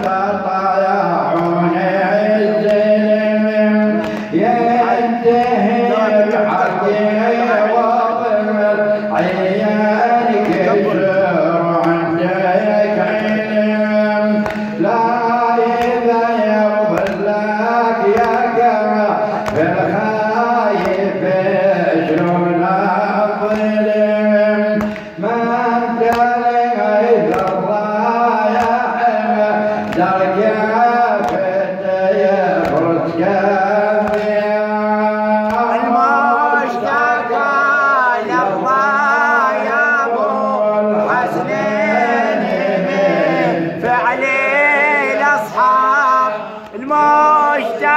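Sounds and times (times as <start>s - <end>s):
man chanting a lament: 0.0s - 47.9s.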